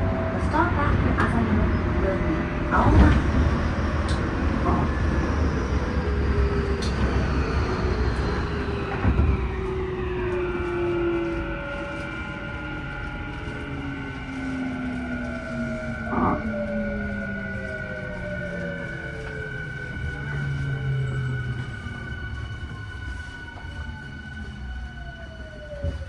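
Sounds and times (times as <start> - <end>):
rail rumble: 0.0 - 26.0.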